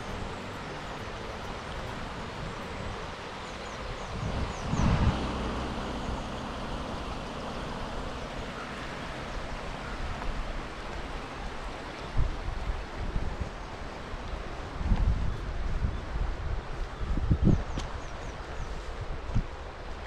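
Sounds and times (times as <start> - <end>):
wind buffeting microphone: 0.0 - 8.6, 9.2 - 20.0
river flowing over rapids: 0.0 - 20.0.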